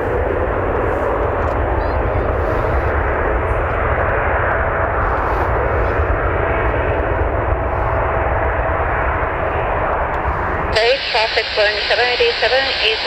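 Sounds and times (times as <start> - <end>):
faint jet whine: 0.0 - 13.0
jet engine roar at takeoff: 0.0 - 13.0.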